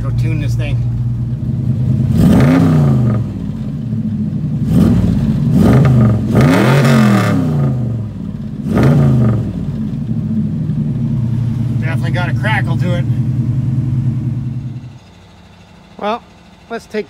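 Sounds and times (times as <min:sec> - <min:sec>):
engine revving: 0:00.0 - 0:16.7
exhaust crackle: 0:00.0 - 0:17.0.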